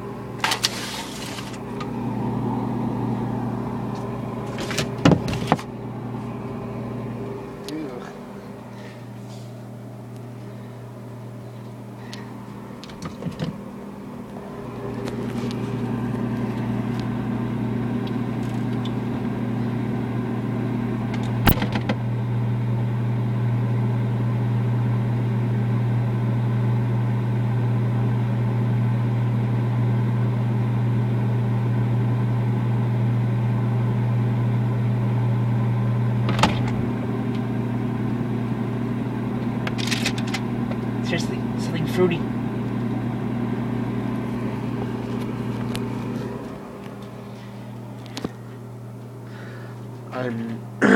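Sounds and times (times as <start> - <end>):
appliance electrical hum: 0.0 - 50.9.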